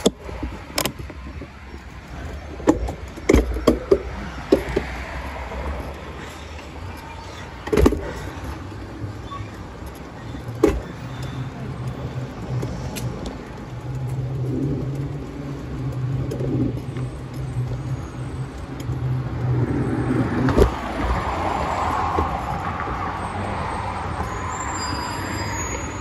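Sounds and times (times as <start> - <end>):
traffic engine hum: 0.0 - 26.0
tyre noise: 0.0 - 26.0.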